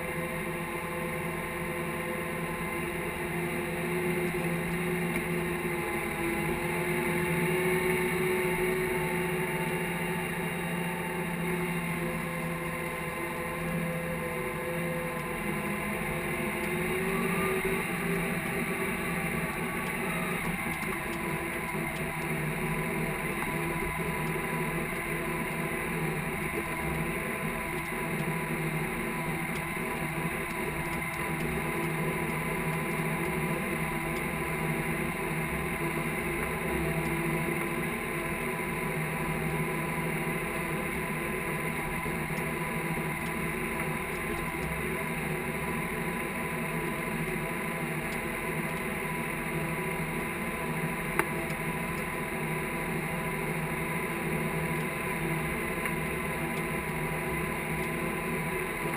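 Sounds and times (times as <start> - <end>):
high whine: 0.0 - 58.9
tractor engine droning: 0.0 - 58.9.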